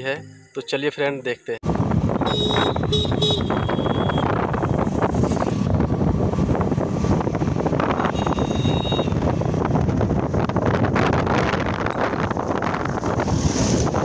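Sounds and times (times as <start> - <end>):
road noise: 0.0 - 14.0
wind buffeting microphone: 1.6 - 14.0.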